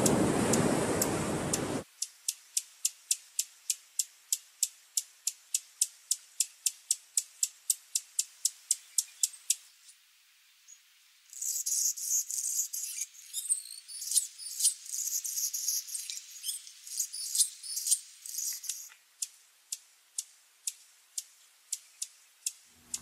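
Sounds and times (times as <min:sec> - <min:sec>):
hummingbird chattering: 0:02.0 - 0:09.7, 0:11.3 - 0:23.0.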